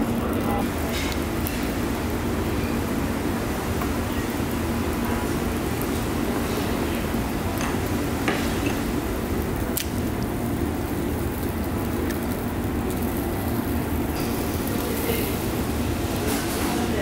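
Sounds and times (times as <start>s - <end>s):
restaurant background noise: 0.0s - 17.0s.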